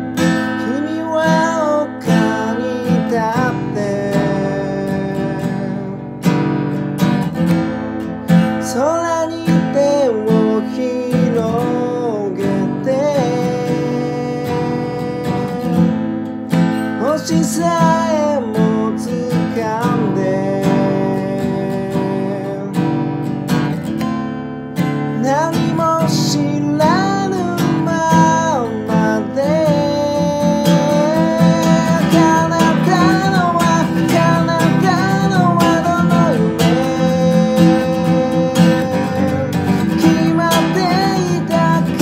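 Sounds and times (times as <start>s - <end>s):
man singing: 0.0s - 23.6s, 24.8s - 42.0s
acoustic guitar strummed chords: 0.0s - 42.0s.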